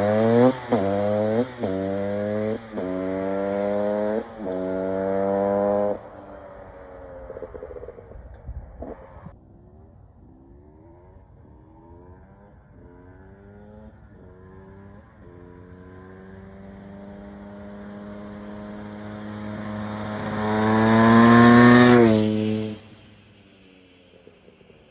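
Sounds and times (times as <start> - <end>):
two-stroke motorcycle revving: 0.0 - 9.3, 10.2 - 24.9.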